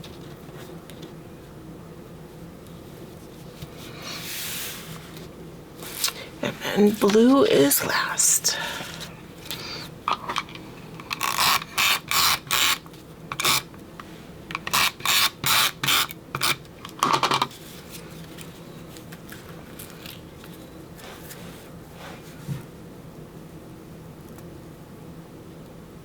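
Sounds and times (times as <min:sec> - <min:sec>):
faint room hum: 0:00.0 - 0:26.0.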